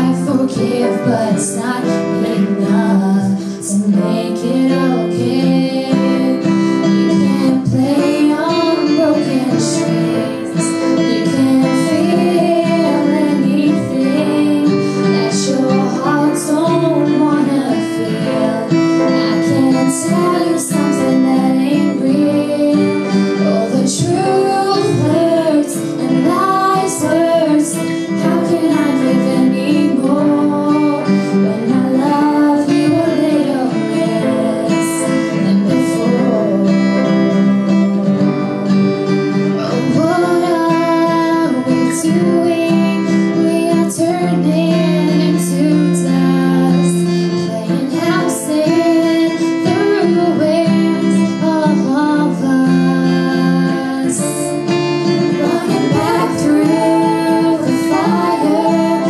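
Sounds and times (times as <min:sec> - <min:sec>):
piano: 0:00.0 - 0:59.0
strummed acoustic guitar: 0:00.0 - 0:59.0
young woman singing: 0:00.0 - 0:59.0.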